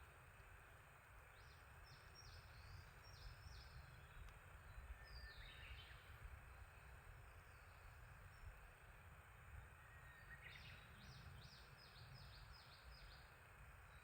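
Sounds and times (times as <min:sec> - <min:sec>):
background hiss: 0:00.0 - 0:14.0
songbird singing: 0:01.2 - 0:14.0.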